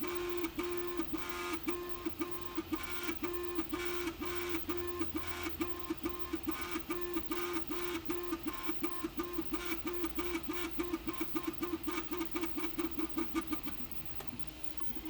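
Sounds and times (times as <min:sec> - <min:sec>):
printer stepper motors whining: 0:00.0 - 0:15.0.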